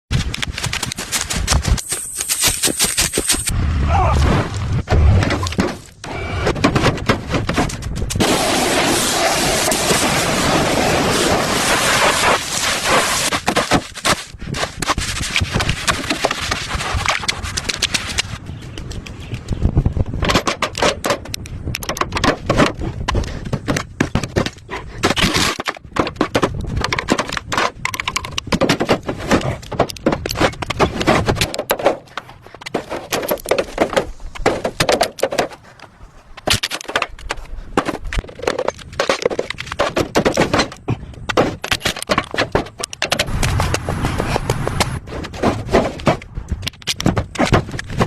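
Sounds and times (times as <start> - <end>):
rapid scraping and knocking: 4.9 - 8.5, 11.2 - 48.0.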